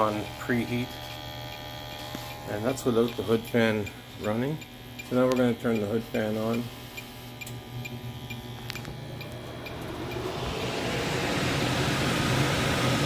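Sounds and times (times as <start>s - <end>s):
exhaust fan rushing: 0.0s - 13.0s.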